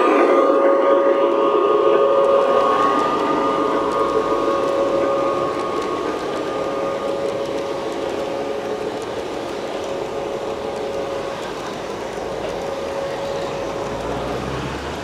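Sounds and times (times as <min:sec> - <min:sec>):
model train rolling past: 0:00.0 - 0:15.0.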